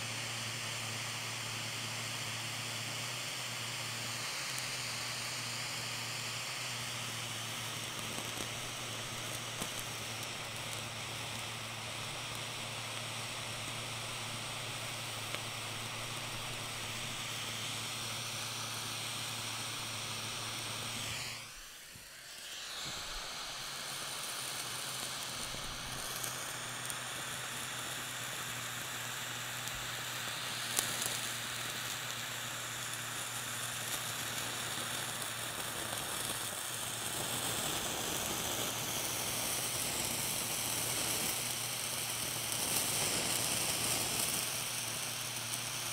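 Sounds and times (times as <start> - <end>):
butane torch hissing: 0.0 - 45.9.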